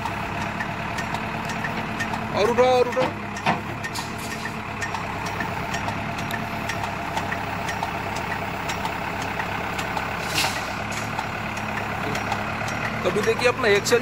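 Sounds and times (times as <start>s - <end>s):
diesel engine running: 0.0s - 14.0s
hydraulics lifting machine: 0.0s - 14.0s.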